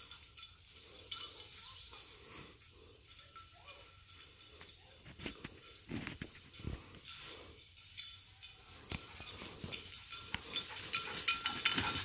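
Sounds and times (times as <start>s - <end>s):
rustling in dry leaves: 0.0s - 12.0s.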